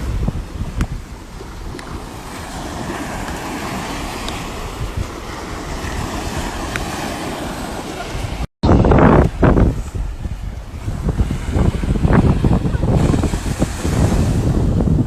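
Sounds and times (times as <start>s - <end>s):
surf: 0.0s - 15.0s
wind buffeting microphone: 0.0s - 15.0s.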